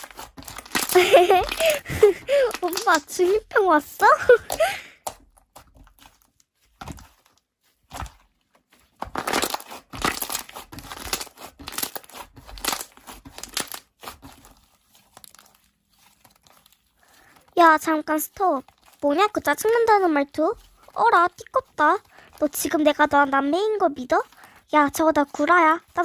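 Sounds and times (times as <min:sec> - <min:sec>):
hands squishing slime: 0:00.0 - 0:26.0.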